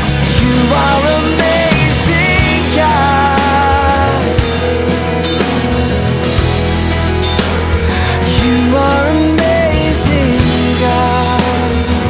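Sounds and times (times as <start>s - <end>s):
band playing music: 0.0s - 12.0s.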